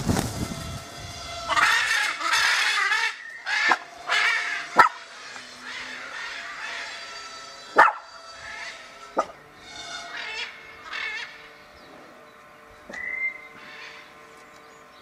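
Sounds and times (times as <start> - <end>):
macaws screeching: 0.4 - 11.6, 12.9 - 14.3.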